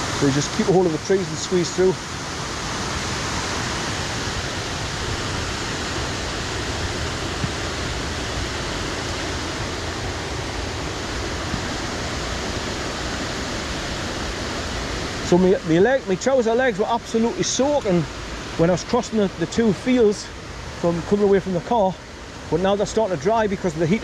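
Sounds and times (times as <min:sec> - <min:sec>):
rushing river water: 0:00.0 - 0:24.0.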